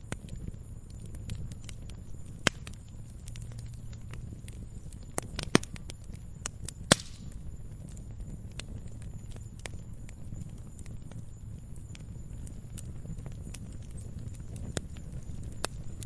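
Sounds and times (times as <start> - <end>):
campfire crackling and popping: 0.0 - 16.0
low rumble of burning fire: 0.0 - 16.0.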